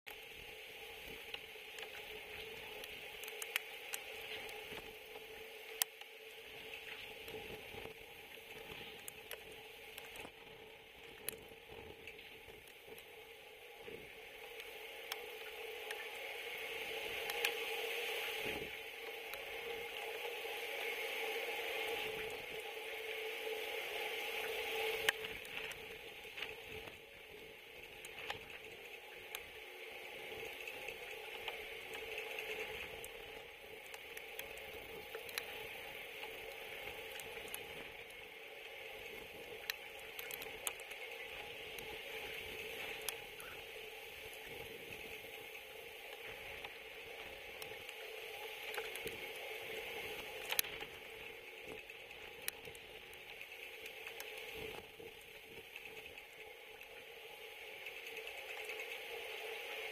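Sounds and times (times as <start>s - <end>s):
faint steady hum: 0.1s - 59.9s
rain and wind hiss: 0.1s - 59.9s
sharp ticks of raindrops: 0.1s - 59.9s.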